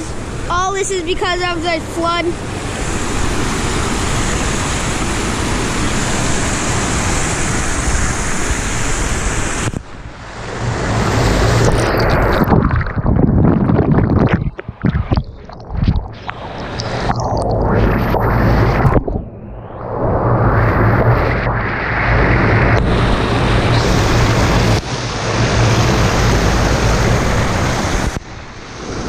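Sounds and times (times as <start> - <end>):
water rushing over weir: 0.0 - 19.2, 20.0 - 29.0.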